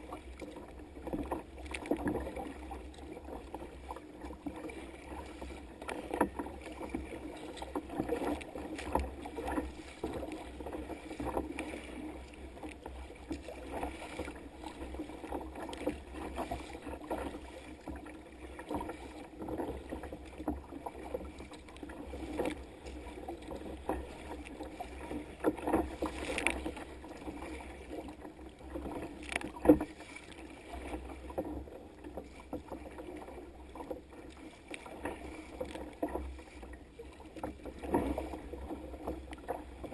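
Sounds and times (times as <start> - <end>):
steady water wash: 0.0 - 39.9
water slapping against kayak: 0.0 - 39.9.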